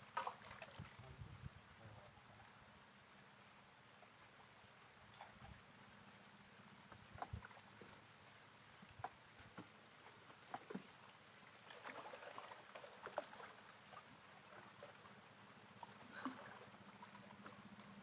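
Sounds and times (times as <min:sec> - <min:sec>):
water lapping: 0:00.0 - 0:01.2, 0:03.9 - 0:18.0.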